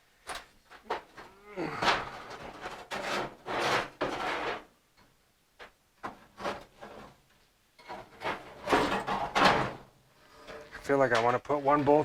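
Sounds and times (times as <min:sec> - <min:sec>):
sheet metal scraping and clunking: 0:00.7 - 0:04.8, 0:06.0 - 0:12.0.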